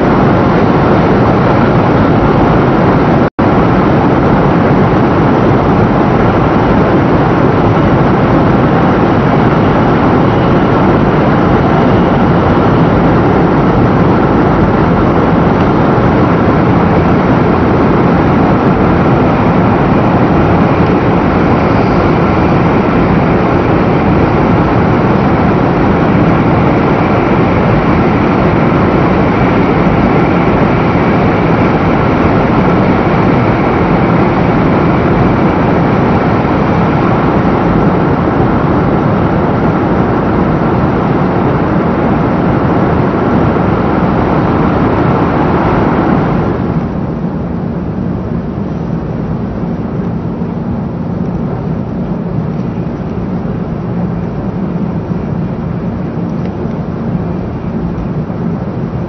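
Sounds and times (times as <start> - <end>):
faint high whine: 0.0 - 59.0
train rumbling at speed: 0.0 - 59.0.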